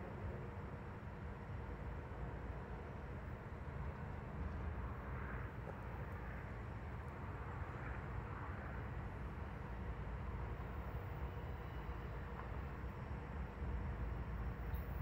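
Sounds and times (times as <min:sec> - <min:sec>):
distant diesel locomotive drone: 0:00.0 - 0:15.0.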